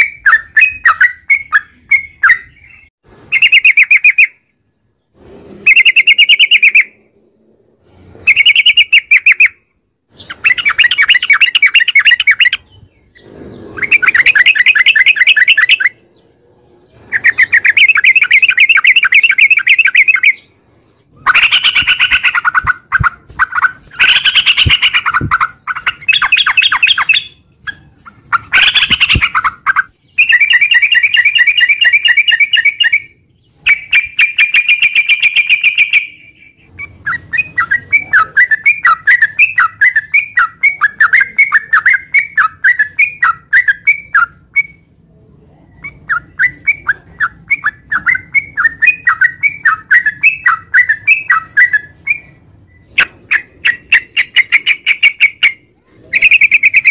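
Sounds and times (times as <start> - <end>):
bulbul rolling chatter song: 0.0 - 56.9.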